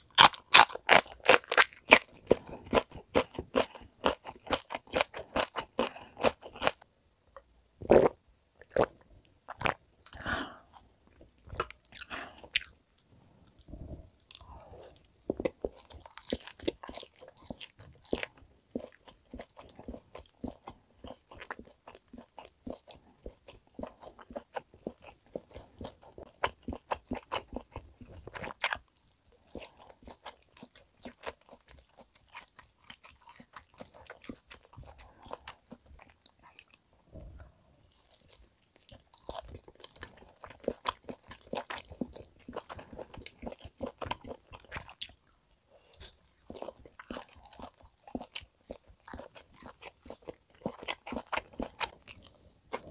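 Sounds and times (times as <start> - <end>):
chewing steak: 0.0 - 6.8, 13.5 - 52.9.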